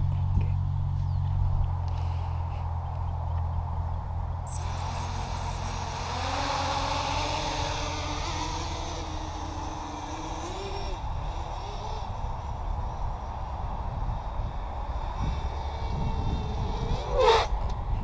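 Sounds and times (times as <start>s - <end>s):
quadcopter motors whirring: 0.0s - 18.0s.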